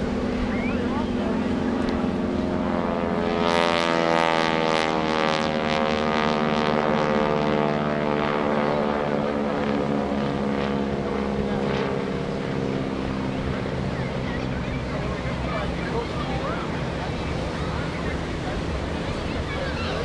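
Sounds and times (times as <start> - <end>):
propeller plane flying overhead: 0.0 - 20.0
radial engine drone: 0.0 - 20.0.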